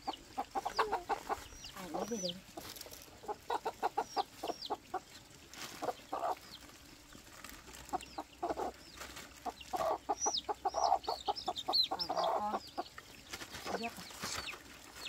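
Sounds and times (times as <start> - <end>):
chicks peeping: 0.0 - 6.7, 7.7 - 15.0
chickens clucking: 0.0 - 15.0.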